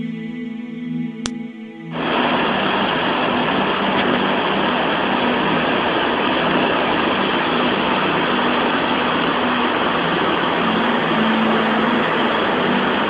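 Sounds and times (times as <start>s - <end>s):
river rushing in a torrent: 2.0s - 13.0s.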